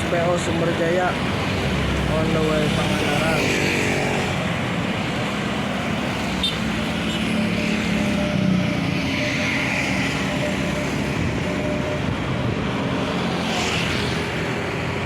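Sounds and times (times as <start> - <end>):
buses driving past: 0.0 - 15.0
road and traffic noise: 0.0 - 15.0.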